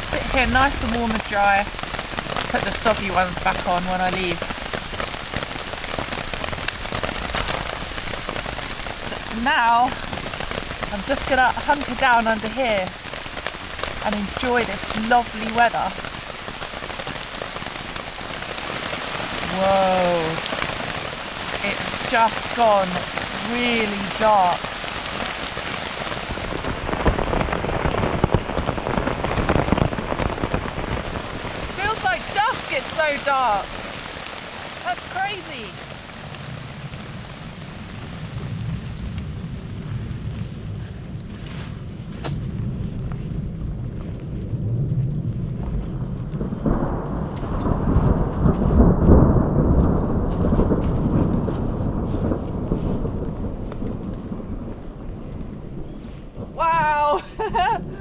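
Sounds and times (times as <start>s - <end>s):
heavy rain on a tarp: 0.0s - 58.0s
thunder rumbling: 0.0s - 58.0s.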